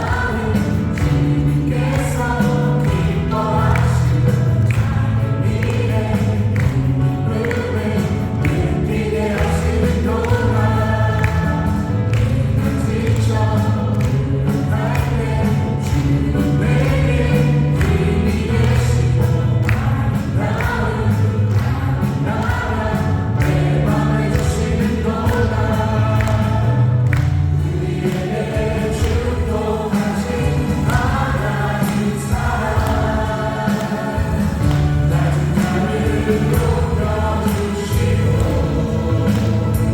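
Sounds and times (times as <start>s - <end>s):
acoustic guitar: 0.0s - 39.9s
drums: 0.0s - 39.9s
group singing a praise song: 0.0s - 39.9s
keyboards: 0.0s - 39.9s.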